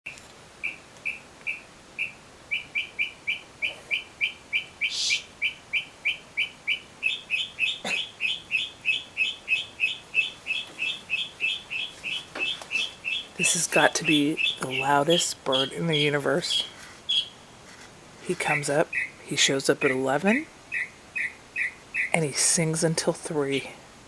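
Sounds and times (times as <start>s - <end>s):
songbird high chirps: 0.1s - 17.5s, 18.2s - 23.7s.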